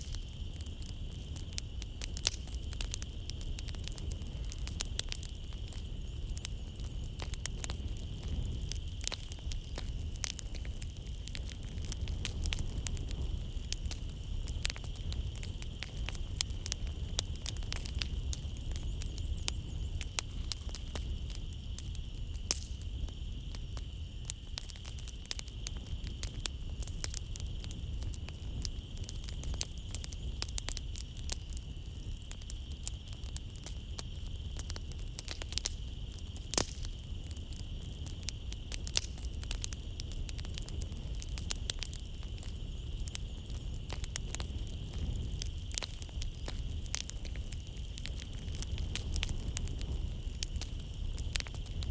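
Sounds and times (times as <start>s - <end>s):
insect trill: 0.0s - 51.9s
wood fire crackling: 0.0s - 51.9s.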